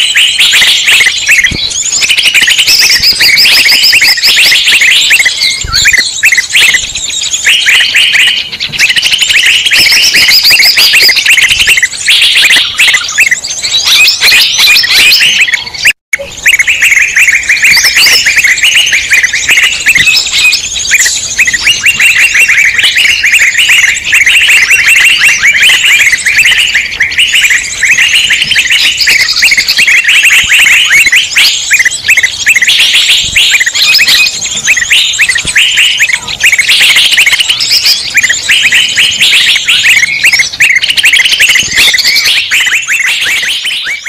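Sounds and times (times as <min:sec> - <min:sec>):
flock of small birds chirping: 0:00.0 - 0:44.0.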